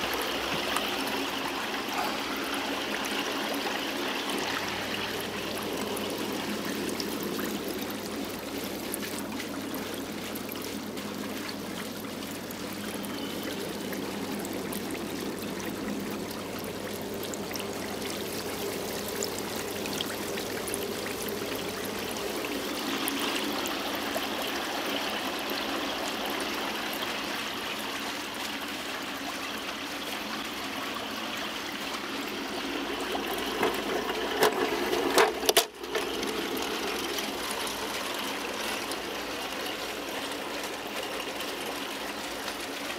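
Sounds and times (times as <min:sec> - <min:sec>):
low steady hum: 0:00.0 - 0:42.9
water bubbling and churning: 0:00.0 - 0:42.9.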